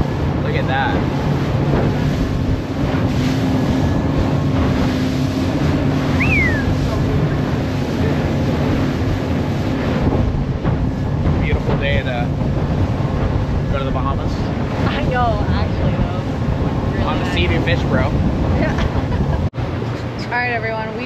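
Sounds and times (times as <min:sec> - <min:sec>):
boat outboard engines droning: 0:00.0 - 0:21.0
rushing water: 0:00.0 - 0:21.0
wind buffeting microphone: 0:00.0 - 0:21.0.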